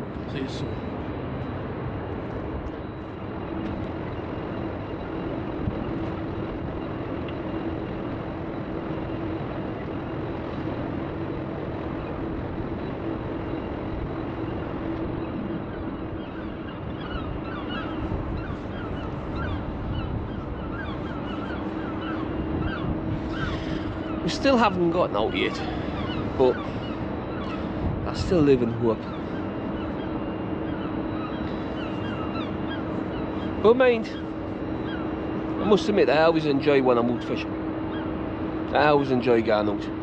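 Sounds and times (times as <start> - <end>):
birds chirping: 0.0 - 40.0
low hum: 0.0 - 40.0
outdoor rumble: 0.0 - 40.0.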